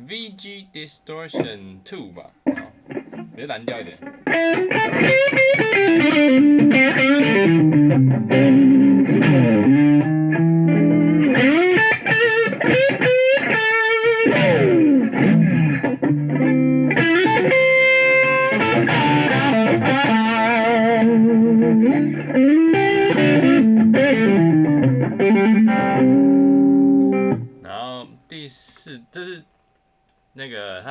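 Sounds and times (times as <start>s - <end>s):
distorted electric guitar: 2.4s - 27.6s.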